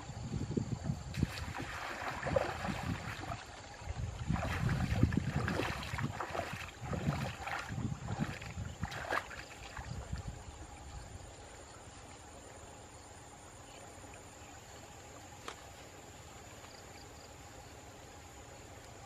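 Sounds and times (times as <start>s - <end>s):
water splashing and sloshing: 0.8s - 17.0s.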